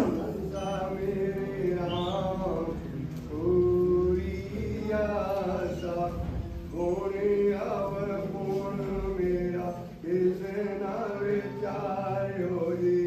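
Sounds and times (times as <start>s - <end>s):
man chanting a hymn: 0.0s - 13.0s.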